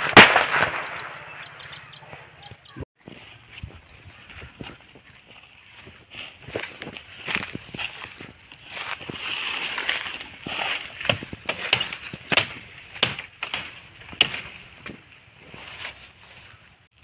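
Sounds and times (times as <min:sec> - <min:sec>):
dry leaves and twigs crunching: 0:03.0 - 0:17.0.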